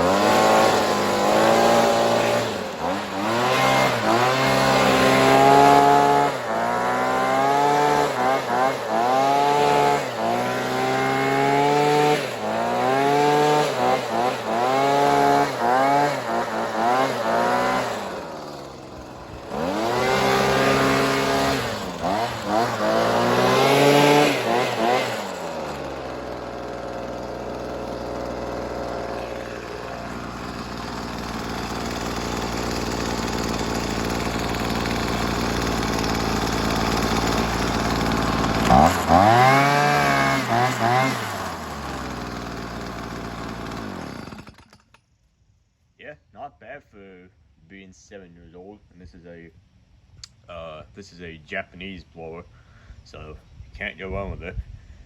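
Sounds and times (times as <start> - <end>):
leaf blower engine revving: 0.0 - 45.0.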